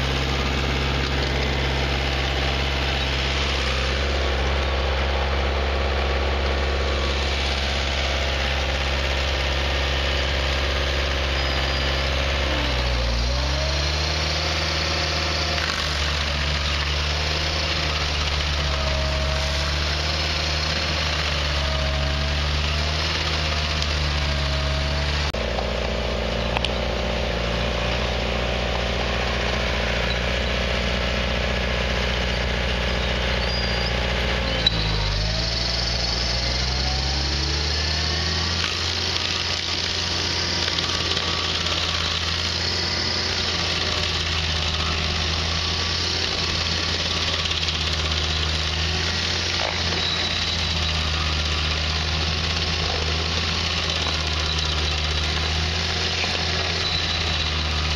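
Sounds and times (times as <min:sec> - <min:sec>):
cutter wheel grinding stump: 0:00.0 - 0:57.9
stump grinder engine running: 0:00.0 - 0:57.9.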